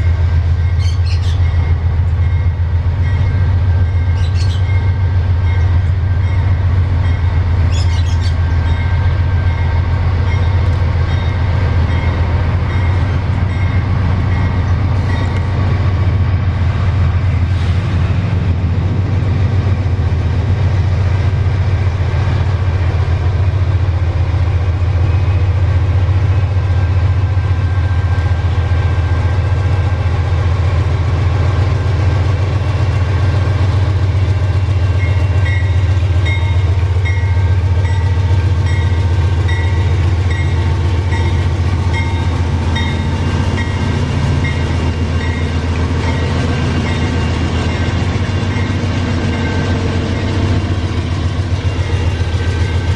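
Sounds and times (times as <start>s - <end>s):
deep locomotive engine rumble: 0.0s - 52.9s.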